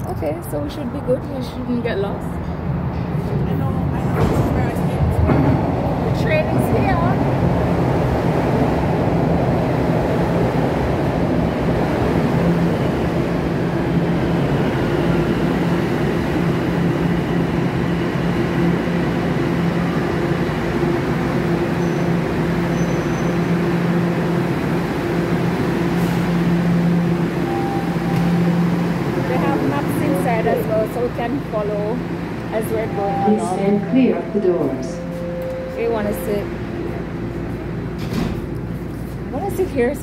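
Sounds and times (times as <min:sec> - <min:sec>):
subway train rumbling to a stop: 0:00.0 - 0:40.0.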